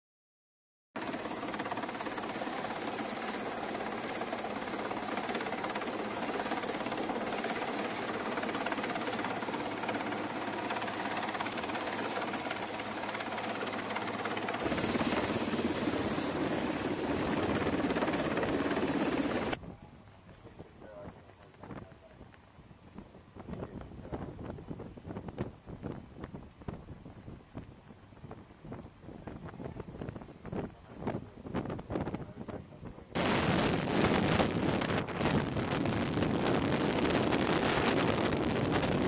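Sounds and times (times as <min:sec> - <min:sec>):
helicopter hovering: 0:01.0 - 0:39.0.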